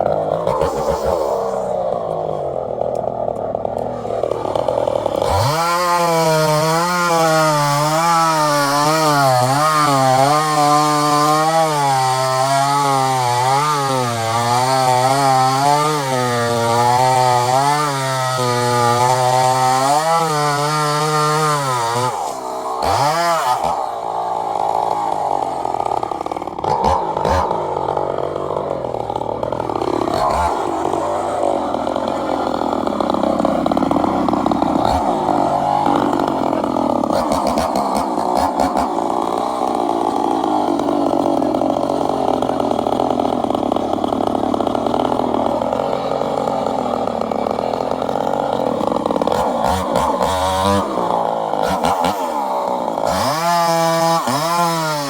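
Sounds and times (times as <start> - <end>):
chainsaw running at high revs: 0.0 - 55.0.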